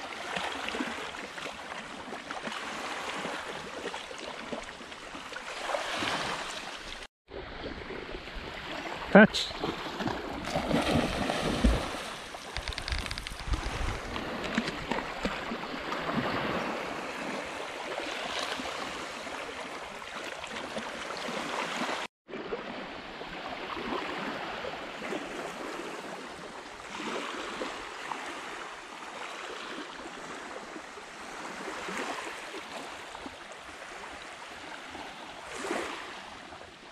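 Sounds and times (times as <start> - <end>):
dog swimming in lake water: 0.0 - 36.9
small waves lapping on shore: 0.0 - 36.9.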